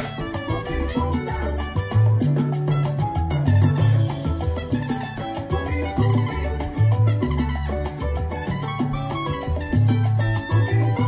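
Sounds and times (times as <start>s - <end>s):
salsa dance music: 0.0s - 11.0s.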